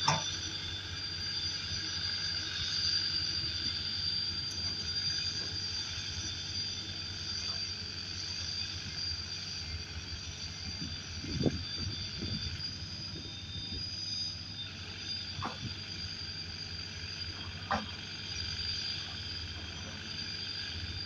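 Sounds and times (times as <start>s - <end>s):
road roller diesel engine rumble: 0.0s - 21.0s.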